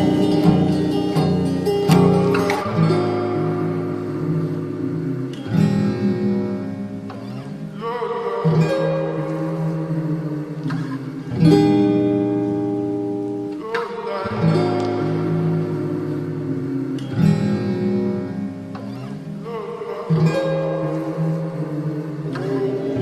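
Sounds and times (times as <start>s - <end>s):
lo-fi hip-hop guitar chords: 0.0s - 23.0s.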